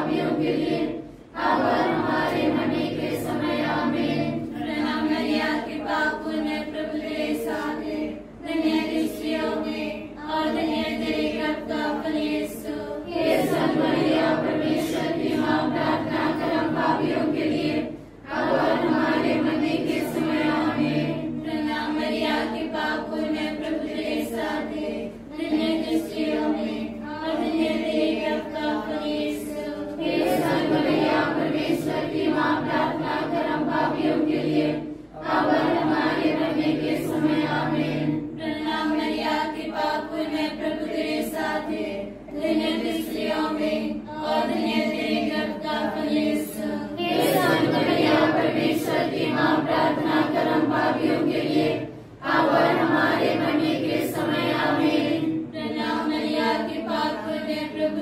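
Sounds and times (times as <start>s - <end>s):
group singing a hymn: 0.0s - 58.0s.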